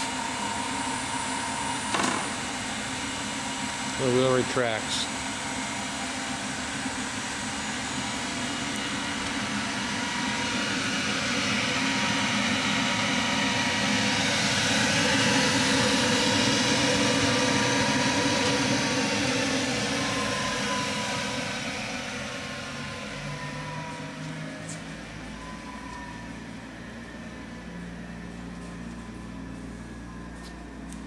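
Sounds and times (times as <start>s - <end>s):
grinding machine running: 0.0s - 31.0s.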